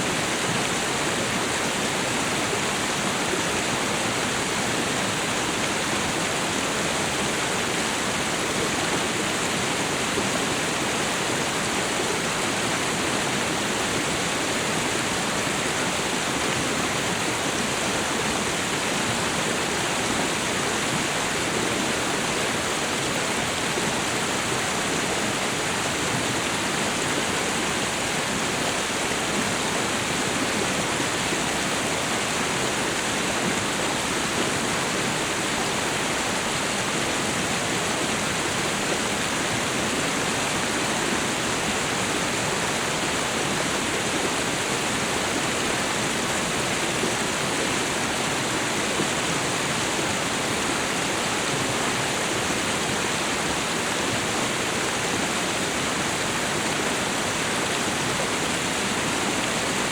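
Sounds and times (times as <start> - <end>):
waterfall and river rushing: 0.0 - 59.9.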